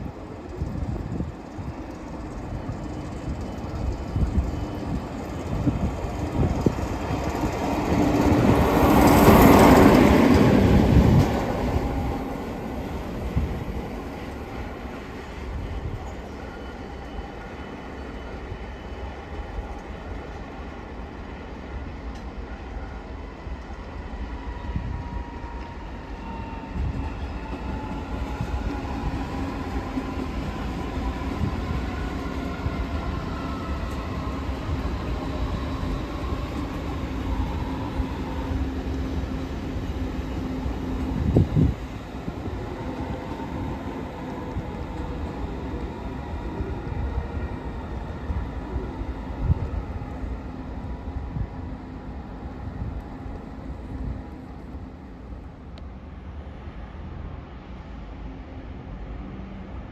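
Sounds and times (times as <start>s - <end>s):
train passing: 0.0s - 59.9s.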